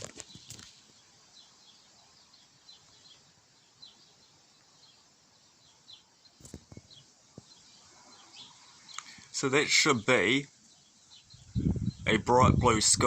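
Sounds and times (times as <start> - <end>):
bird chirping: 0.0 - 13.0
steady hiss: 0.0 - 13.0.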